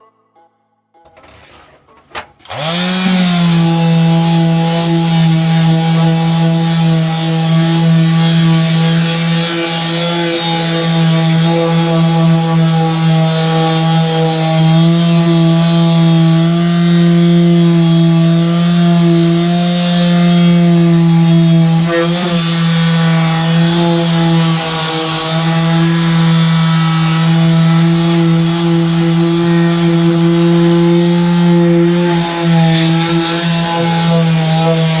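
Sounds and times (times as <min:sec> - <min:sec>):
electric sander humming: 0:02.4 - 0:35.0.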